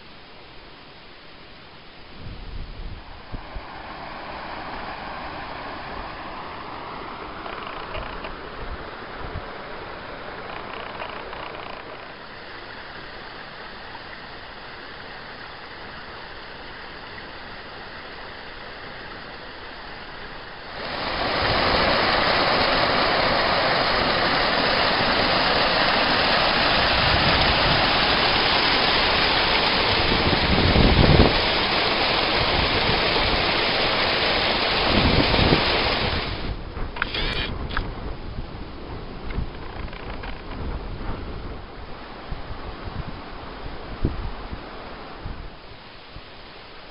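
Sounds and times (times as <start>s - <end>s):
quiet steady hiss: 0.0s - 46.9s
water splashing over a weir: 2.9s - 46.9s.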